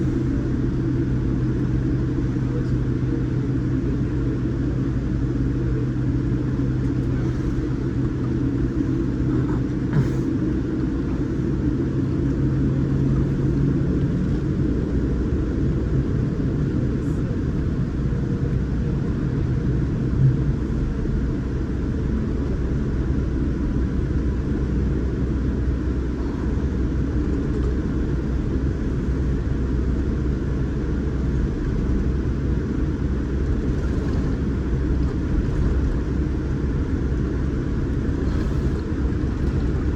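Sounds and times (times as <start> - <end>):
aircraft cabin engine rumble: 0.0 - 39.9
low hum: 0.0 - 39.9.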